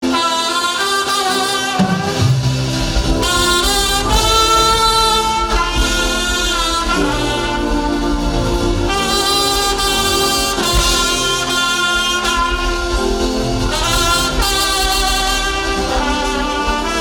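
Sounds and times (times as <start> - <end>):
saxophone and brass melody: 0.0 - 17.0
bass line: 2.1 - 17.0.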